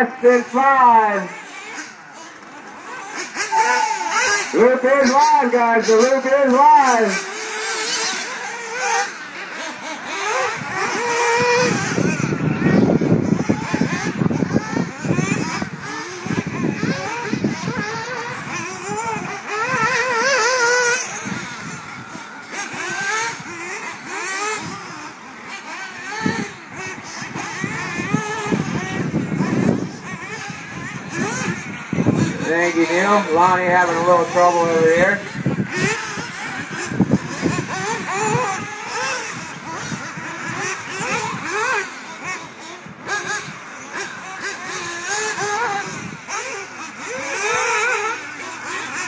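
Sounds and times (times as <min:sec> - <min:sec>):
buggy engine warbling up and down: 0:00.0 - 0:49.0
model buggy engines whining and revving: 0:00.0 - 0:49.0.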